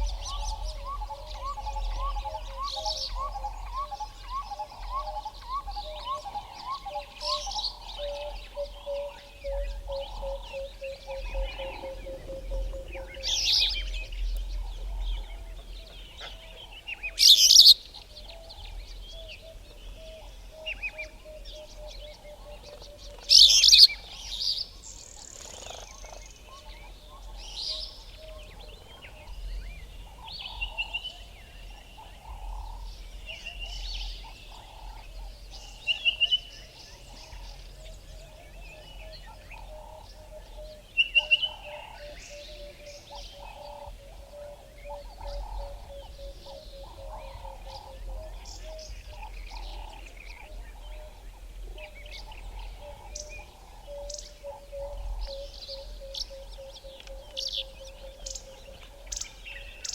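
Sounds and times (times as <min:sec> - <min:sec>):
birds chirping and whistling: 0:00.0 - 0:59.9
loud sharp bird calls: 0:00.0 - 0:59.9.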